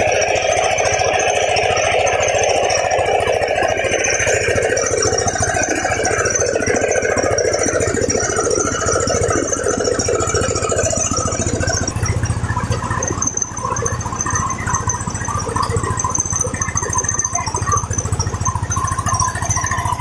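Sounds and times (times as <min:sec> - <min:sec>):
rice mill engine running: 0:00.0 - 0:20.0.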